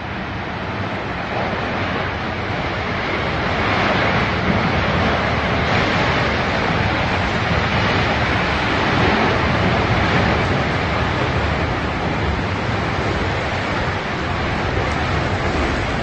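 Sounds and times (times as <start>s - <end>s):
low rumble: 0.0s - 16.0s
strong storm wind rushing: 0.0s - 16.0s.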